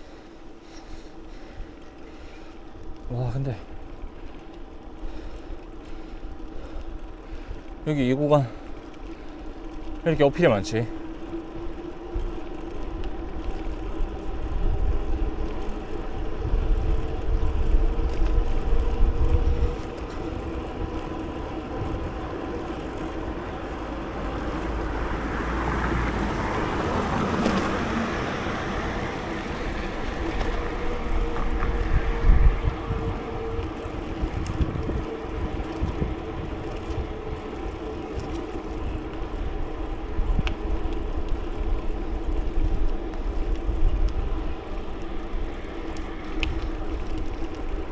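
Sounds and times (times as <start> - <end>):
vehicle passing: 0.0 - 47.9
wind rumbling on microphone: 0.0 - 47.9.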